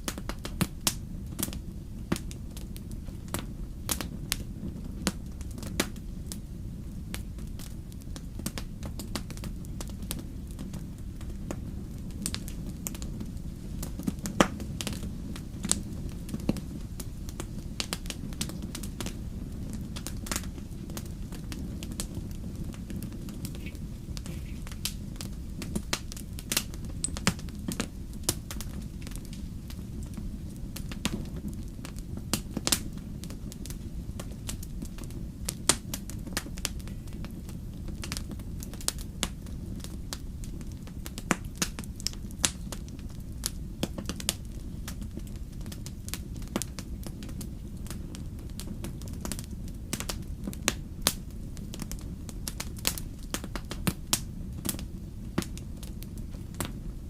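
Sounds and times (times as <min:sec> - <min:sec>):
fire crackling and popping: 0:00.0 - 0:57.0
low fire rumble: 0:00.0 - 0:57.0.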